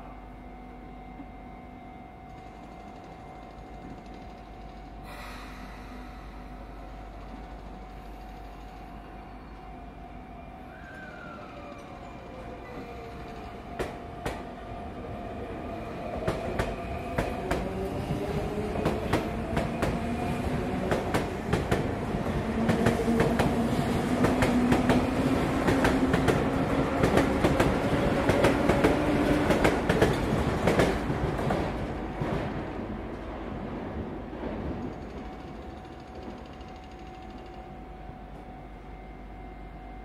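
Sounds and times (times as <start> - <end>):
train braking to a stop: 0.0 - 33.2.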